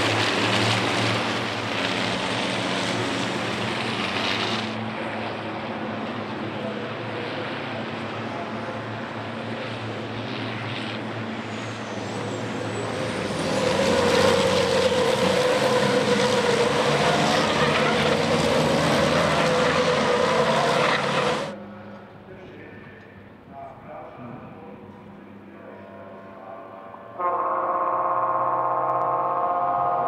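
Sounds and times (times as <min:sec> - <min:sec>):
race truck engines passing: 0:00.0 - 0:30.0.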